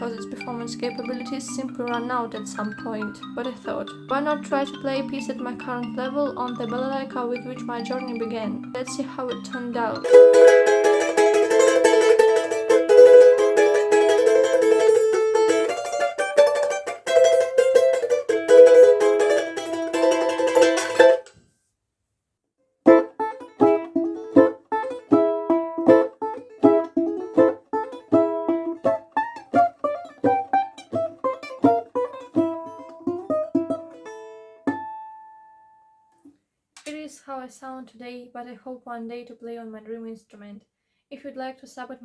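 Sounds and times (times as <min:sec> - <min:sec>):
balalaika plucked notes: 0:00.0 - 0:21.3, 0:22.9 - 0:36.2
balalaika tremolo strumming: 0:00.0 - 0:21.3, 0:22.9 - 0:35.8.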